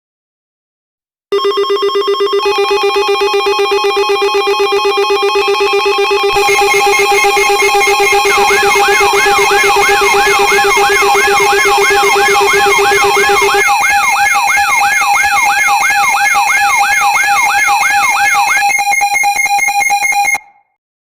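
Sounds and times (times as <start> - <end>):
electronic alert siren: 1.3 - 20.7
fast electronic pulsing: 2.4 - 20.4.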